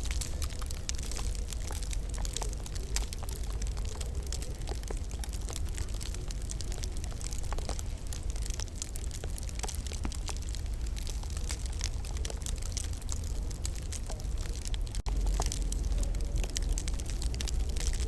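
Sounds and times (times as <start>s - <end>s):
low rumble of fire: 0.0s - 18.0s
wood fire crackling: 0.0s - 18.0s.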